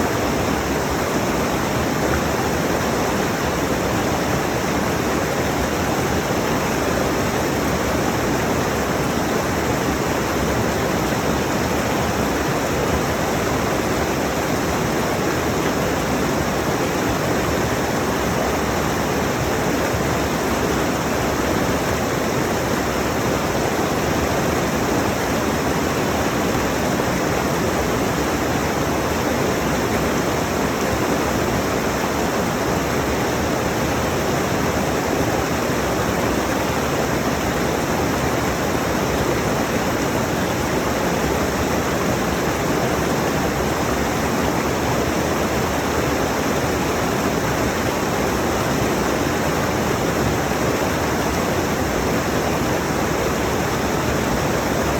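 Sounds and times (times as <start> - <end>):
stream pouring over rocks: 0.0 - 54.9.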